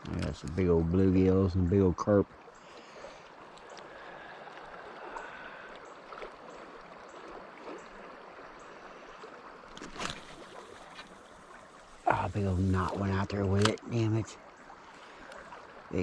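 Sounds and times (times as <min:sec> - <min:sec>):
flowing creek water: 0:00.0 - 0:16.0.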